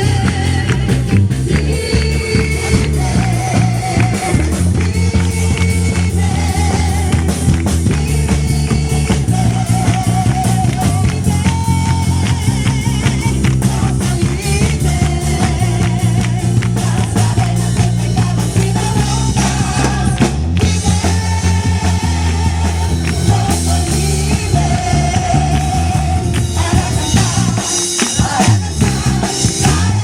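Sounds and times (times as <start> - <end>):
song with guitar bass and drums: 0.0 - 30.0.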